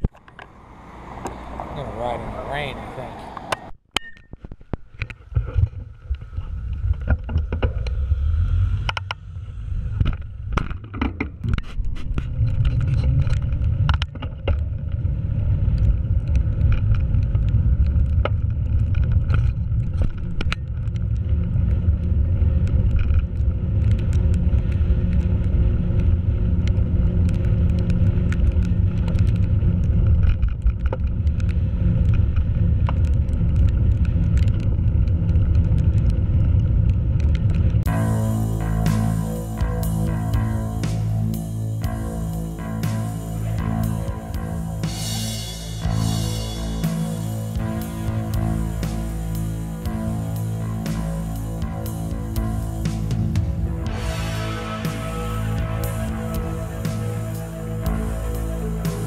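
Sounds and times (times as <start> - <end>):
muffled bicycle ride rumble: 0.0 - 3.7, 4.3 - 59.0.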